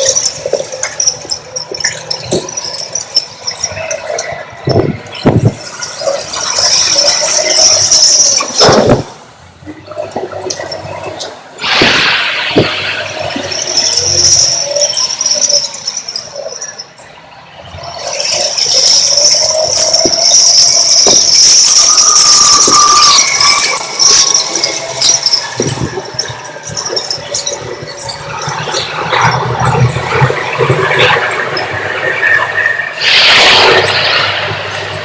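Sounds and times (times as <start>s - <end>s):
high-pitched metallic squeal: 0.0s - 9.1s, 10.4s - 35.0s
knocks and rattles: 0.0s - 9.3s, 10.0s - 16.5s, 17.9s - 35.0s
backhoe loader working: 0.0s - 35.0s.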